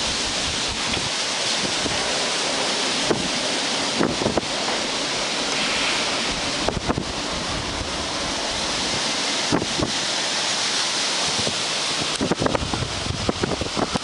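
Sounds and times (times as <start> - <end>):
strong wind rushing: 0.0 - 14.0
wind buffeting microphone: 0.0 - 14.0.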